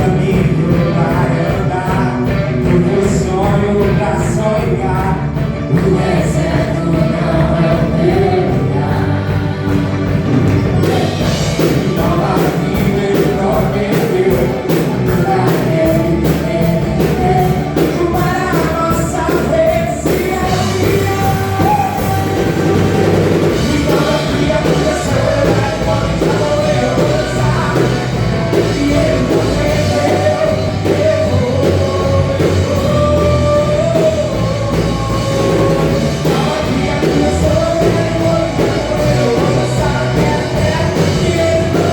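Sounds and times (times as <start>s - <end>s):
live band music with singing: 0.0s - 41.9s.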